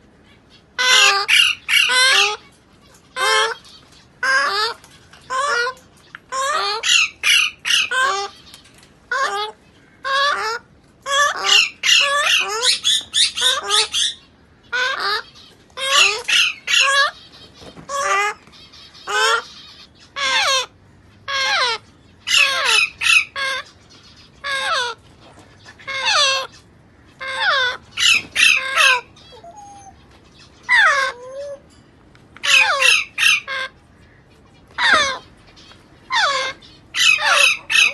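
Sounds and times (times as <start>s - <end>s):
parrot chicks squawking: 0.0s - 37.9s.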